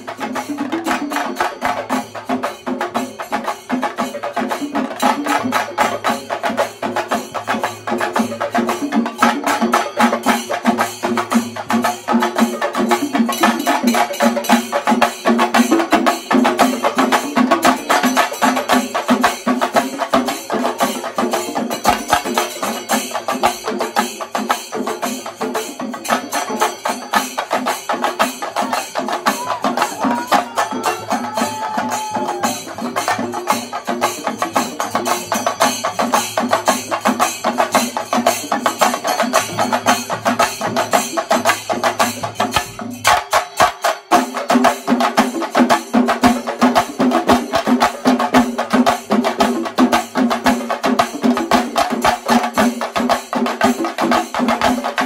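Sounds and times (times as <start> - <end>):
drum ensemble playing fast rhythm: 0.0 - 55.0.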